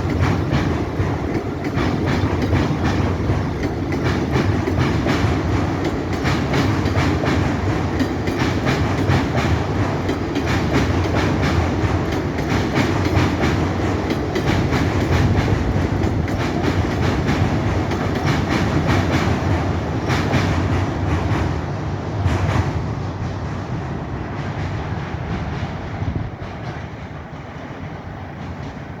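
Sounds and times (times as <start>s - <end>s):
train rumbling over bridge: 0.0s - 29.0s
wheels clacking over rail joints: 0.0s - 29.0s.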